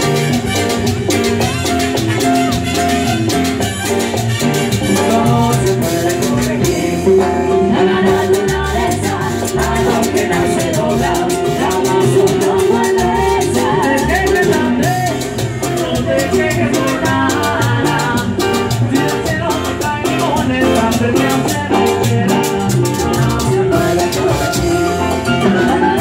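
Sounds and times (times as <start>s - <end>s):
bass: 0.0s - 26.0s
drums: 0.0s - 26.0s
person singing: 4.8s - 26.0s.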